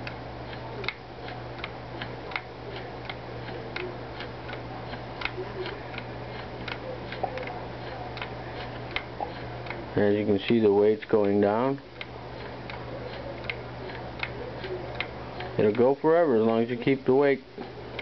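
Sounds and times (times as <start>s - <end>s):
clock escapement ticking: 0.0s - 18.0s.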